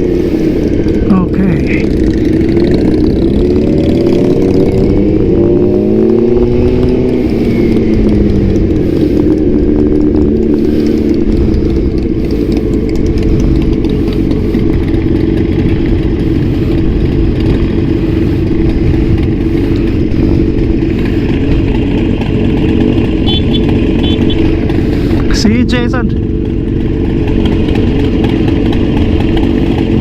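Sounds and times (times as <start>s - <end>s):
motorcycle exhaust note: 0.0s - 30.0s.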